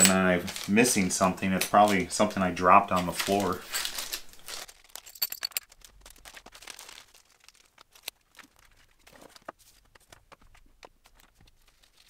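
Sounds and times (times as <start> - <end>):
plastic packaging crinkling: 0.1 - 12.0.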